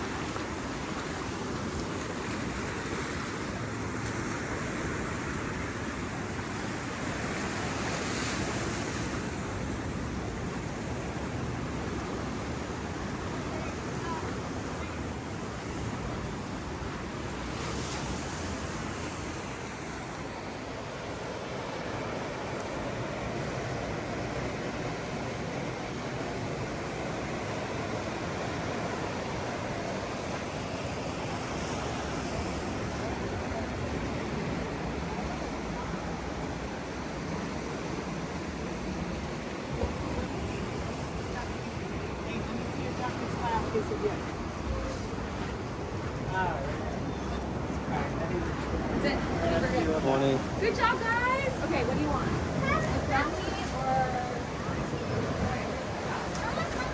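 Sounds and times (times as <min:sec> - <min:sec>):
ocean surf breaking on beach: 0:00.0 - 0:56.9.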